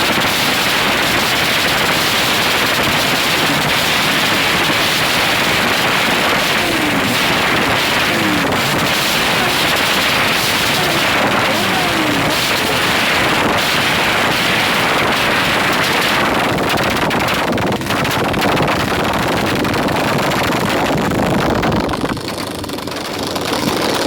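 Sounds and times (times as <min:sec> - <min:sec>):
wind rushing over microphone: 0:00.0 - 0:22.8
motorcycle engines running: 0:00.0 - 0:24.0.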